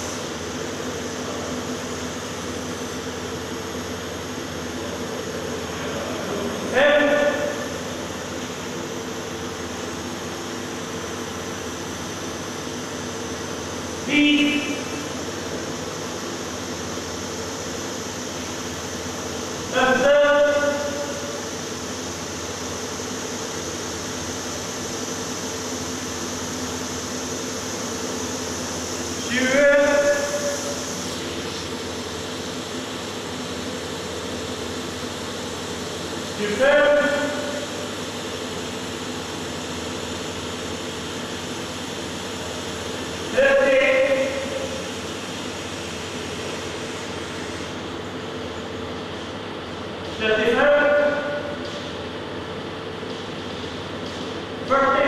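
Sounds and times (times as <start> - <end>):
machinery hum and hiss: 0.0 - 55.0.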